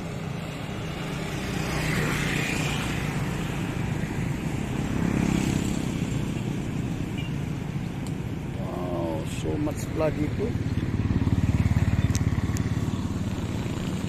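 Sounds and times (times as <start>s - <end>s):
vehicle passing: 0.0s - 14.0s
wind and road noise rumble: 0.0s - 14.0s.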